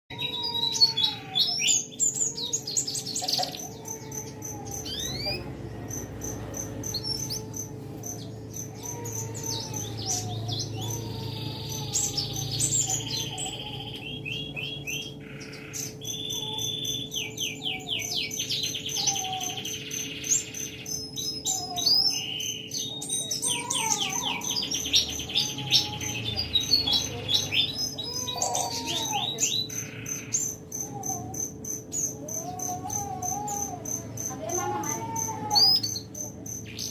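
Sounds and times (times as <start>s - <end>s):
songbirds singing: 0.1s - 36.9s.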